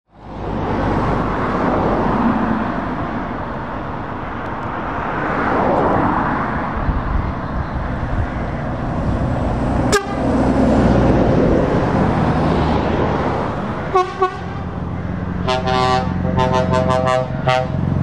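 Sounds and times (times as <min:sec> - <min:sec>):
trucks and cars passing: 0:00.1 - 0:18.0.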